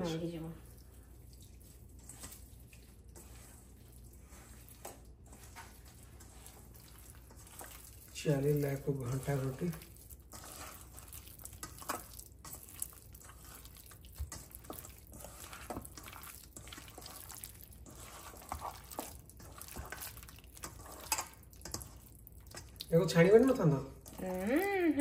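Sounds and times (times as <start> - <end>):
wet squelches of food mixing: 0.0 - 25.0.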